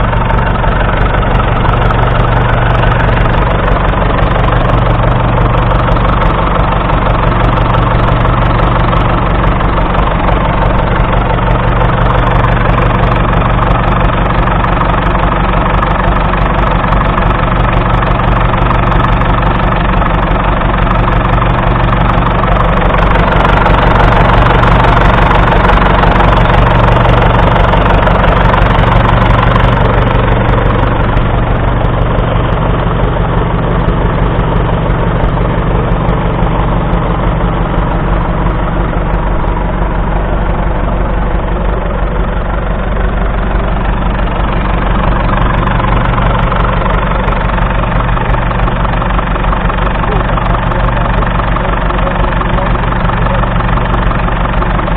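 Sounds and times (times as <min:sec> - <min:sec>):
diesel tractor idling: 0:00.0 - 0:54.9.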